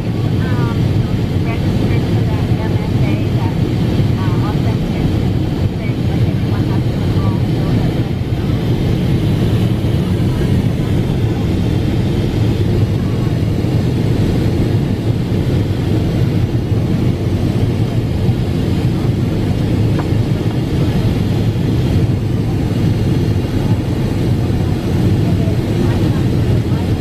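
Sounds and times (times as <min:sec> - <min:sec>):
airliner cabin noise: 0:00.0 - 0:27.0.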